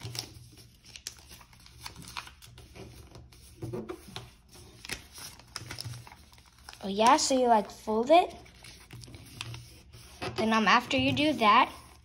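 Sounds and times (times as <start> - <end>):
paper folding and rustling: 0.0 - 12.0.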